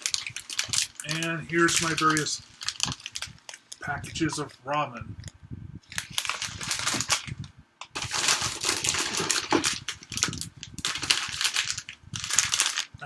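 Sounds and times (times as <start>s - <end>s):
plastic packets crinkling: 0.0s - 4.5s, 5.8s - 13.0s.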